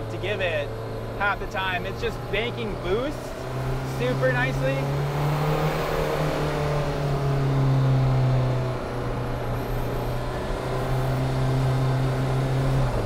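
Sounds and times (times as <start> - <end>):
diesel engine pulling under boost: 0.0 - 13.0.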